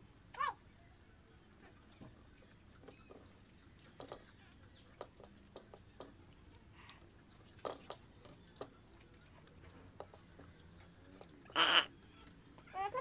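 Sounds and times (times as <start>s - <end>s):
chewing: 1.6s - 12.7s.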